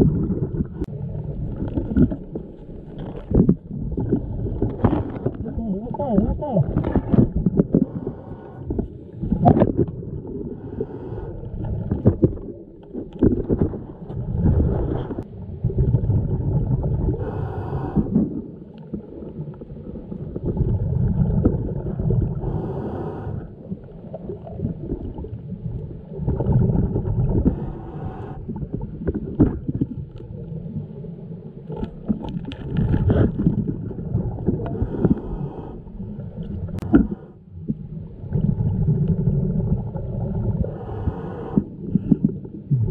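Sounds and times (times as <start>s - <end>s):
exhaled bubbles underwater: 0.0s - 42.9s.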